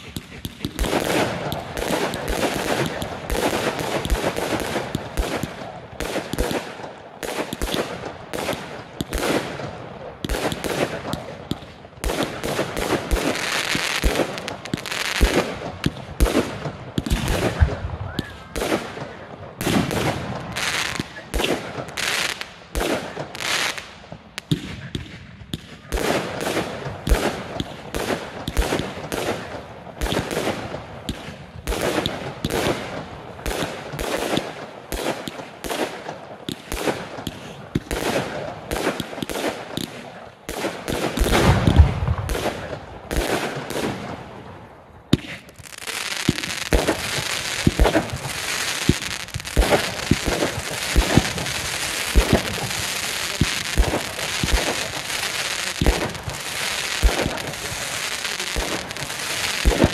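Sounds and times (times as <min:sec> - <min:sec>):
fireworks banging: 0:00.0 - 0:44.4, 0:45.1 - 0:59.9
fireworks crackling: 0:00.0 - 0:59.9.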